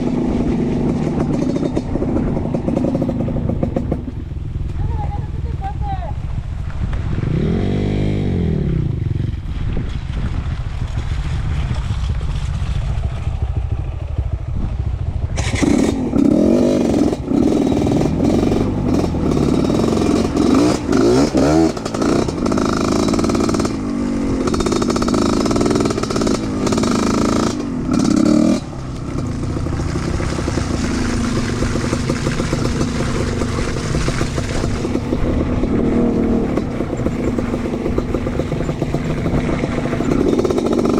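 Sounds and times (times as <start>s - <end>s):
motorcycle engine revving: 0.0s - 9.6s, 10.8s - 40.9s.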